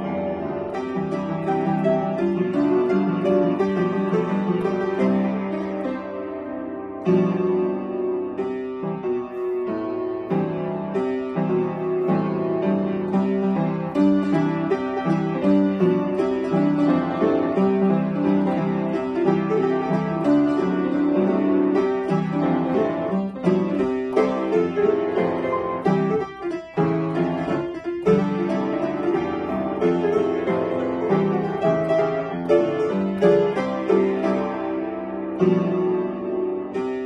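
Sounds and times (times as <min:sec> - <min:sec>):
upright piano playing: 0:00.0 - 0:37.0.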